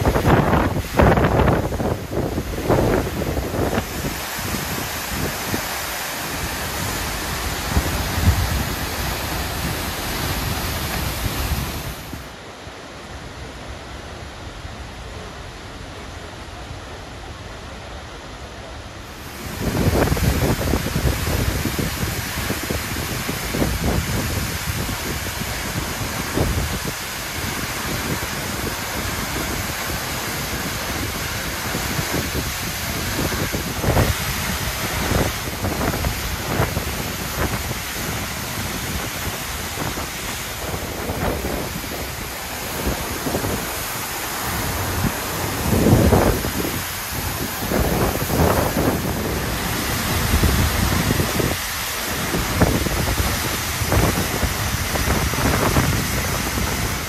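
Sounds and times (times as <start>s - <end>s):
wind buffeting microphone: 0.0s - 12.3s, 19.2s - 57.0s
waterfall rushing: 0.0s - 57.0s.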